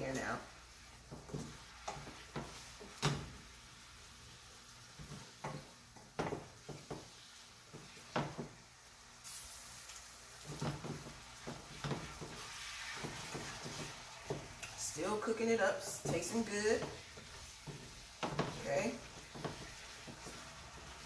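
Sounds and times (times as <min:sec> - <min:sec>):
wooden spoon stirring saucepan: 0:00.0 - 0:08.6, 0:10.4 - 0:21.0
hot pan hissing: 0:00.0 - 0:21.0.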